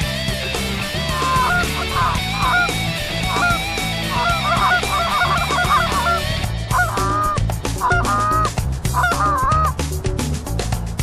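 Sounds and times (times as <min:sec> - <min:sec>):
guitar music: 0:00.0 - 0:09.5
geese honking: 0:00.8 - 0:09.7.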